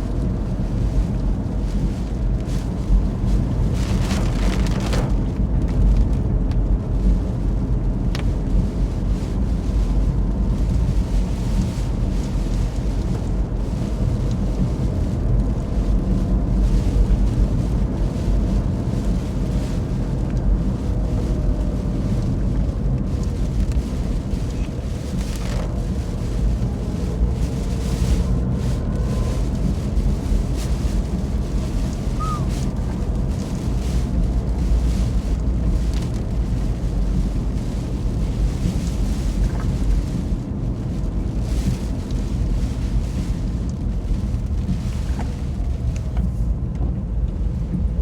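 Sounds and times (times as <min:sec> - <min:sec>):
storm wind buffeting microphone: 0:00.0 - 0:48.0.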